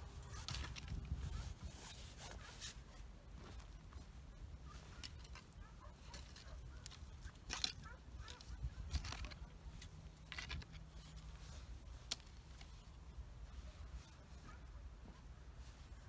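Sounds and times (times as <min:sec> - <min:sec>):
soil scraping and crunching: 0:00.0 - 0:16.0.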